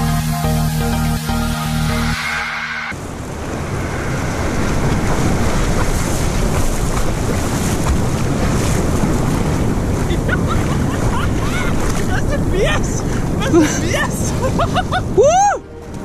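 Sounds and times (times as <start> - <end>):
surf washing over sand: 2.2 - 15.2
wind buffeting microphone: 2.9 - 16.0.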